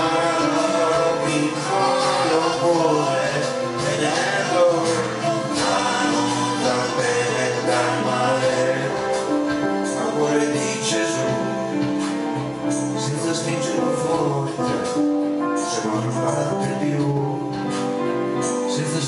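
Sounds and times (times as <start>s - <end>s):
man singing into a microphone: 0.0s - 11.9s, 12.7s - 17.7s, 18.5s - 19.0s
keyboard music: 0.0s - 19.0s.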